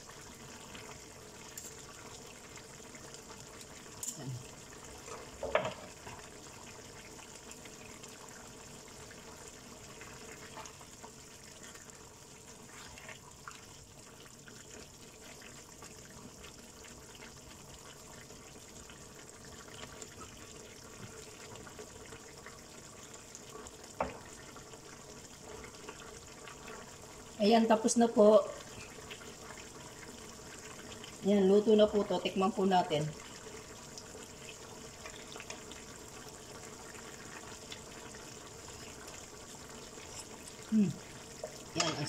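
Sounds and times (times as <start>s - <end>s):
sauce simmering in a pan: 0.0s - 42.0s.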